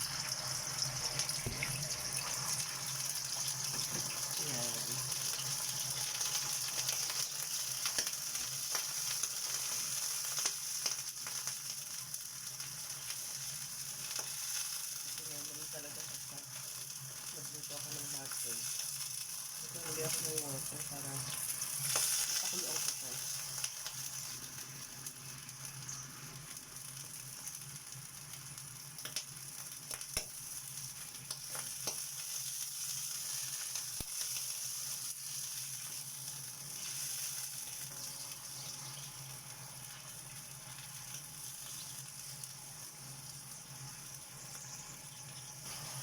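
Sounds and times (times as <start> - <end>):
hot dogs sizzling in a frying pan: 0.0 - 46.0.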